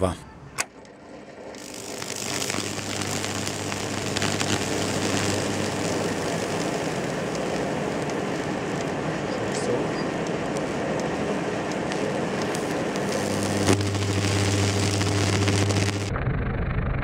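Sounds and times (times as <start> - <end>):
electrical arc buzzing and crackling: 1.5 - 16.2.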